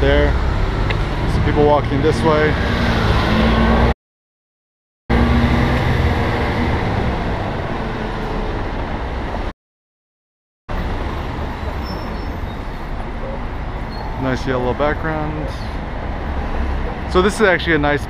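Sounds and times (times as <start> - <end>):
traffic rumble: 0.0 - 4.0, 5.1 - 9.5, 10.7 - 18.0.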